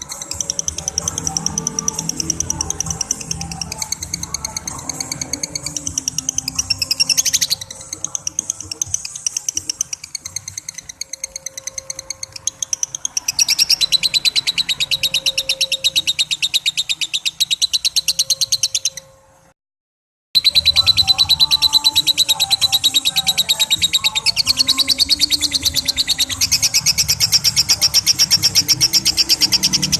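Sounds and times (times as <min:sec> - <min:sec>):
lovebird shrill chattering: 0:00.0 - 0:19.2, 0:20.4 - 0:29.9.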